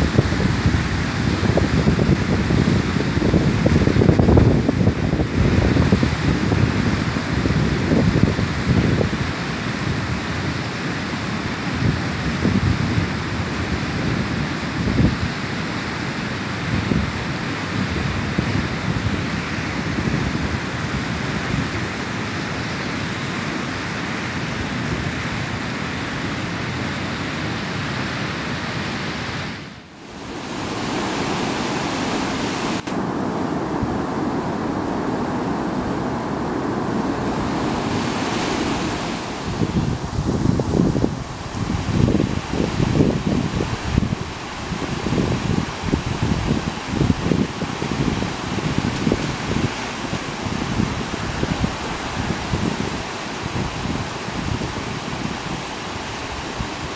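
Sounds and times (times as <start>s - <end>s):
turbulent river water rushing: 0.0s - 56.9s
wind buffeting microphone: 0.0s - 56.9s.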